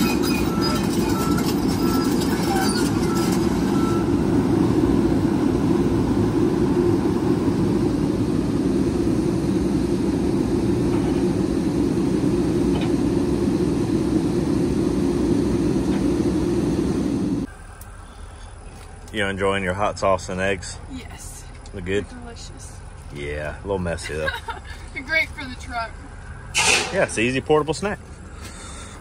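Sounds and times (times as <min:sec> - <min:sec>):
truck engine and road noise: 0:00.0 - 0:29.0.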